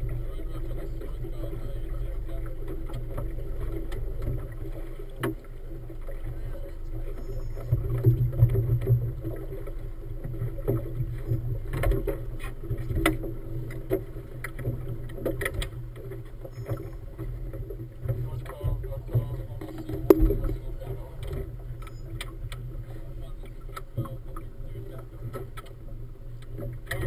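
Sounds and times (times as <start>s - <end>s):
motorboat engine humming: 0.0s - 27.0s.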